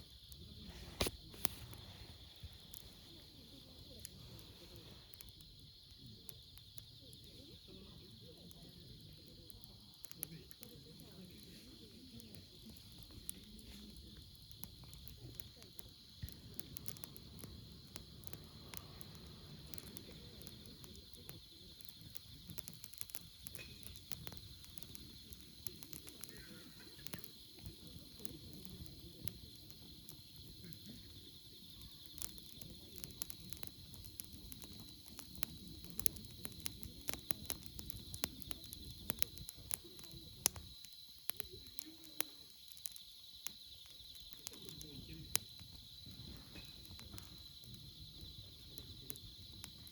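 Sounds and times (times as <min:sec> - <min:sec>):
campfire crackling and popping: 0:00.0 - 0:49.9
insect chorus: 0:00.0 - 0:49.9.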